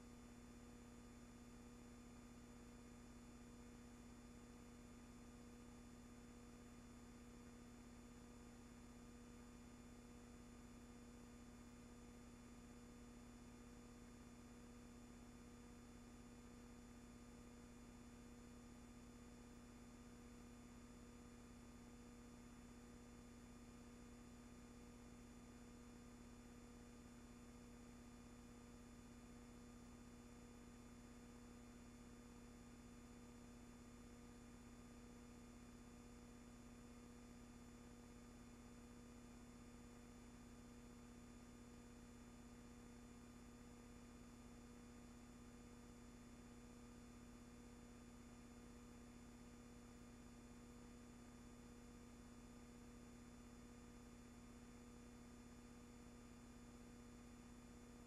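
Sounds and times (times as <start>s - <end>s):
faint electrical hum and hiss: 0.0s - 58.0s.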